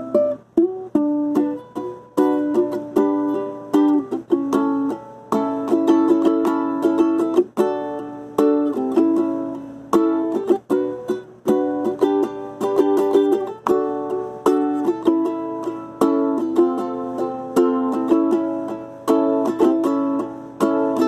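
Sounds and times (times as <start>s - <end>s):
ukulele strumming chords: 0.0s - 21.0s.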